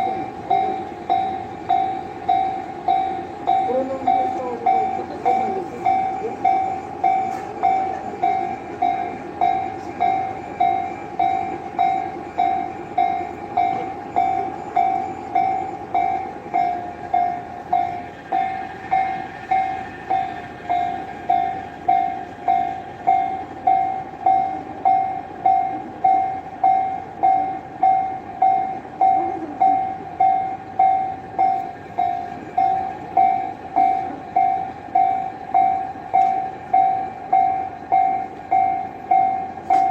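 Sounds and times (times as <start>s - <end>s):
electronic crossing bell ringing: 0.0s - 39.9s.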